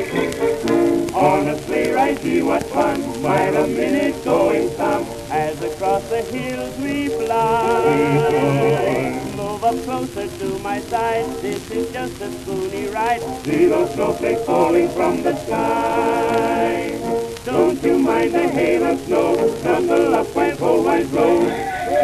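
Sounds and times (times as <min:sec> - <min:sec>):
record surface crackle and hiss: 0:00.0 - 0:22.0
male quartet singing with orchestra: 0:01.2 - 0:22.0.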